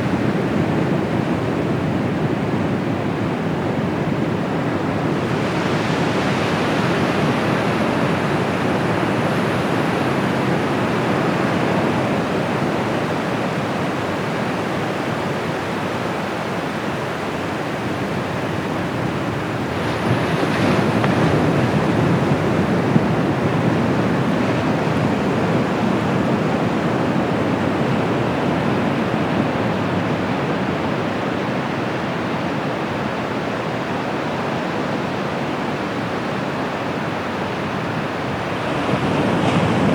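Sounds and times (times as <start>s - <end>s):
surf washing up beach: 3.2s - 39.9s.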